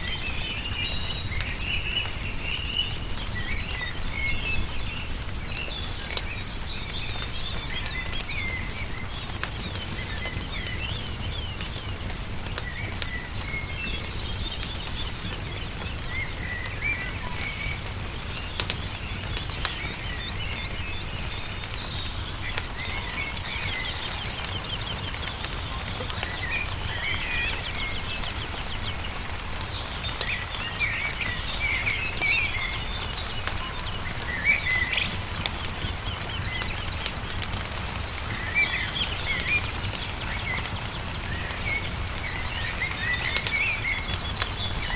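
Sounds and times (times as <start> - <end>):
songbirds chirping: 0.0 - 44.9
wood fire popping and crackling: 0.0 - 44.9.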